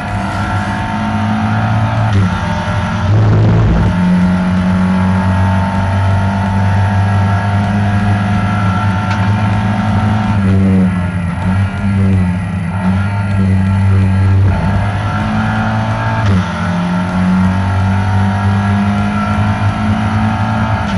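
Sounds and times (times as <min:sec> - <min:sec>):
racing car engine at high revs: 0:00.0 - 0:20.9.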